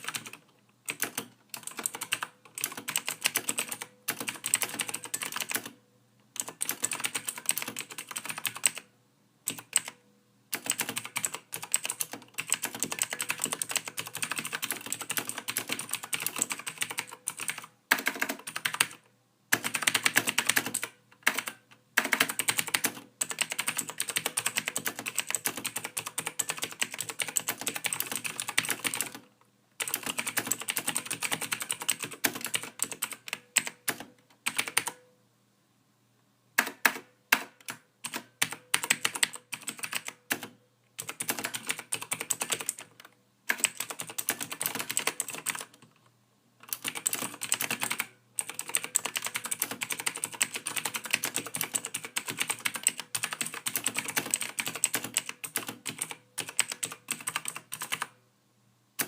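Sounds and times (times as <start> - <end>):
typing on computer keyboard: 0.0 - 5.8, 6.4 - 8.9, 9.5 - 35.0, 36.6 - 46.0, 46.6 - 58.2.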